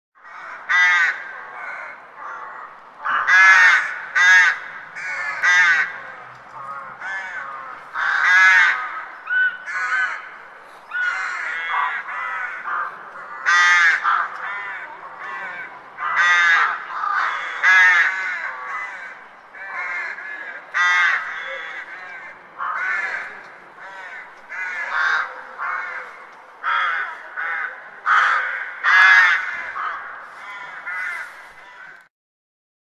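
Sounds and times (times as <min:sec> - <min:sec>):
crows cawing: 0:00.2 - 0:32.1.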